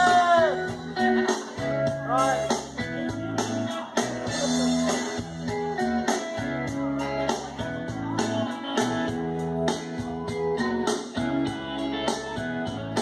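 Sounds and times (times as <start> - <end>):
guitar-led instrumental backing track: 0.0 - 13.0.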